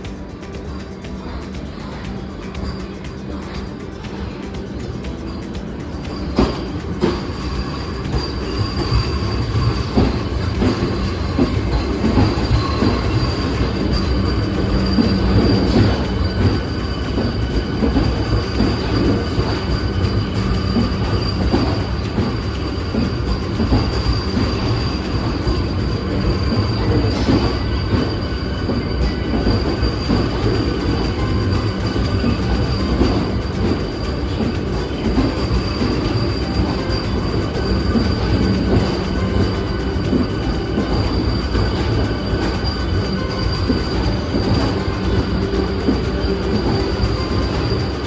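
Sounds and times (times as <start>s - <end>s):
thin high-pitched tone: 0.0s - 48.0s
train wheels rumbling: 0.0s - 48.0s.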